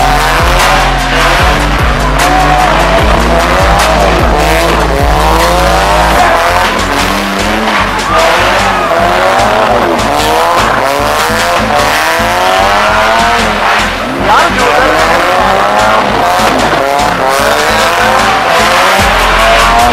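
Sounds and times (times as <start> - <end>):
car engines revving: 0.0 - 19.9
music with heavy bass: 0.0 - 19.9.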